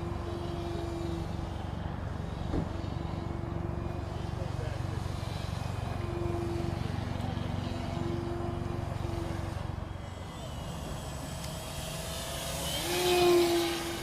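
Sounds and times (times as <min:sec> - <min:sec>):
model plane motor buzzing: 0:00.0 - 0:14.0.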